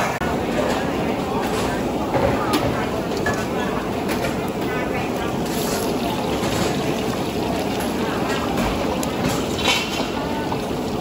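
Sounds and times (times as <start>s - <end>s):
water boiling hard: 0.2s - 11.0s.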